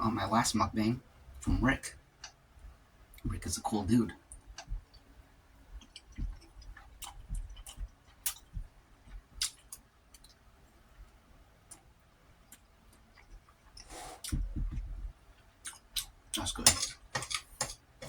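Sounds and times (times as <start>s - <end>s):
soft chewing: 1.3s - 18.0s.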